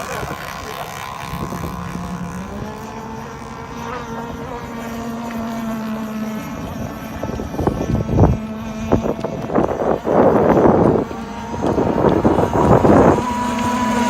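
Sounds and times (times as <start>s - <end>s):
model boat engine running: 0.0s - 14.0s.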